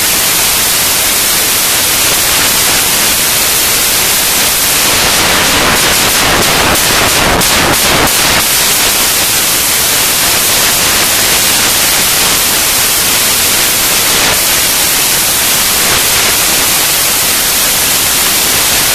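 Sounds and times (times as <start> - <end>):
crackles: 0.0 - 18.9
static hiss: 0.0 - 18.9.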